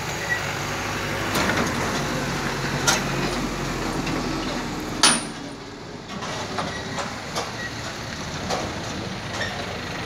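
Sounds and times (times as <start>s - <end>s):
diesel truck engine: 0.0s - 10.0s.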